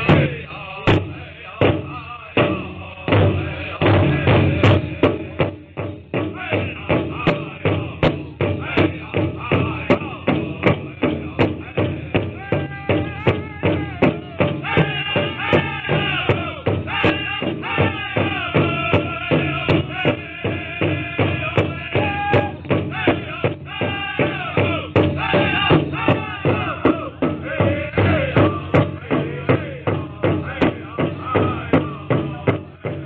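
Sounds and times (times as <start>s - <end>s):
group singing: 0.0s - 33.0s
large drum beating: 0.0s - 33.0s.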